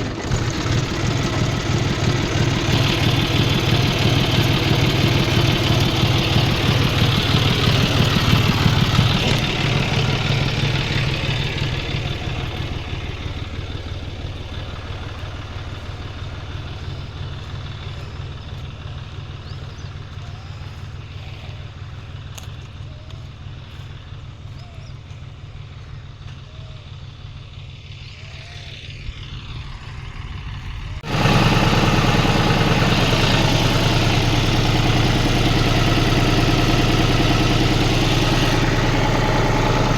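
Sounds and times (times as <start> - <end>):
tractor diesel engine humming: 0.0 - 39.9.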